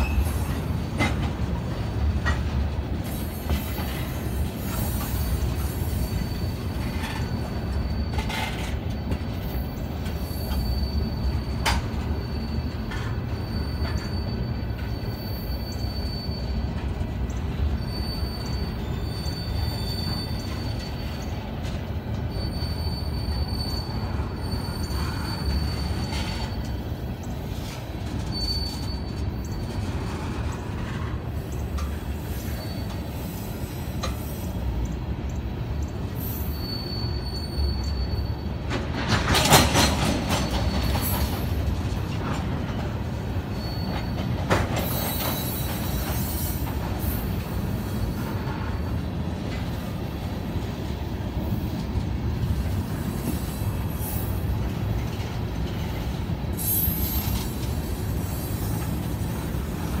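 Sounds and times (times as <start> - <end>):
train wheels rumbling on rails: 0.0 - 60.0
high wheel squeals: 1.8 - 34.6, 35.5 - 60.0.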